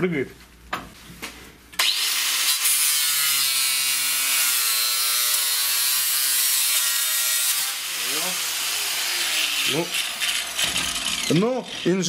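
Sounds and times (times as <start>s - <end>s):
angle grinder grinding wood: 1.8s - 12.0s.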